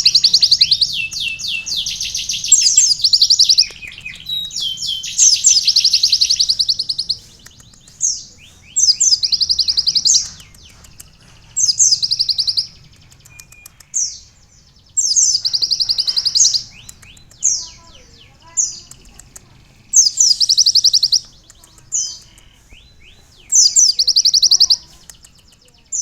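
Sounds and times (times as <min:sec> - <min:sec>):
songbird singing trills: 0:00.0 - 0:26.0.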